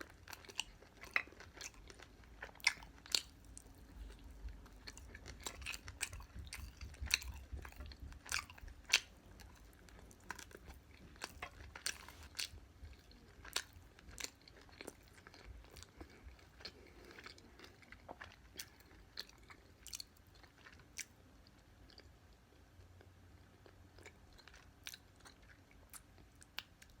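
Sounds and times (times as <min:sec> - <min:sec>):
chewing crispy food: 0:00.0 - 0:27.0.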